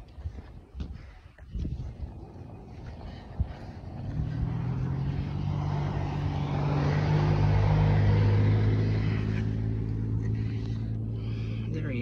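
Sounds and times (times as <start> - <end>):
vehicle engine and tyres passing: 0.0 - 12.0.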